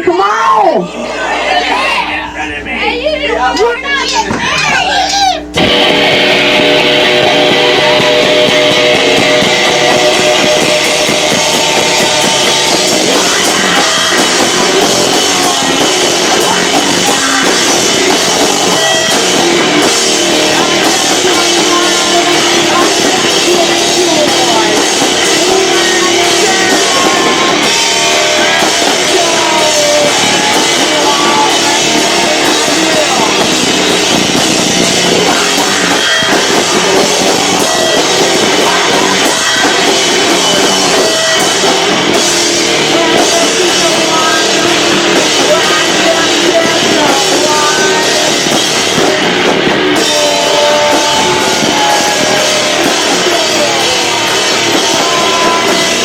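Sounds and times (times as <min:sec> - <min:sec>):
electric guitar: 0:03.4 - 0:56.0
drum kit: 0:04.1 - 0:56.0
person singing: 0:05.8 - 0:56.0.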